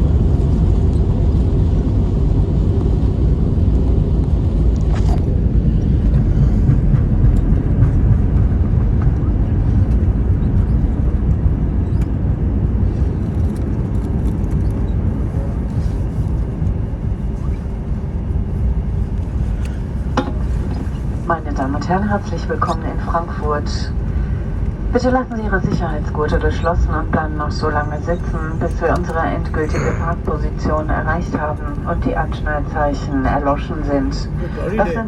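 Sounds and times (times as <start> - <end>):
aircraft cabin rumble: 0.0 - 35.0.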